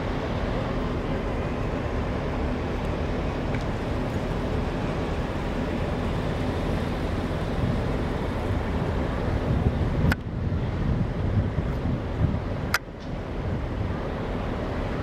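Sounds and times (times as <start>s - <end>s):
low rumbling outdoor noise: 0.0s - 15.0s.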